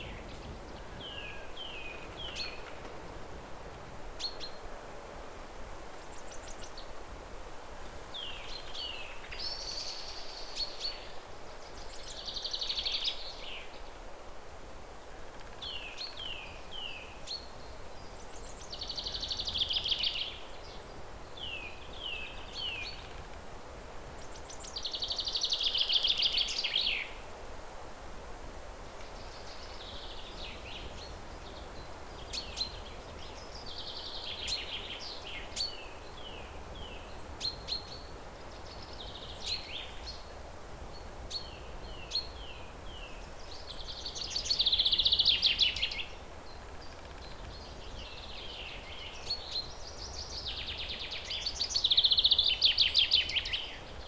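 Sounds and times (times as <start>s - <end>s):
low outdoor hiss: 0.0s - 54.0s.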